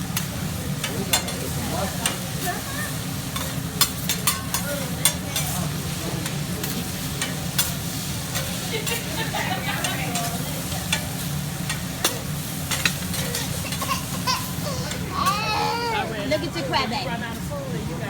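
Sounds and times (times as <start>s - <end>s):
food sizzling: 0.0s - 17.4s.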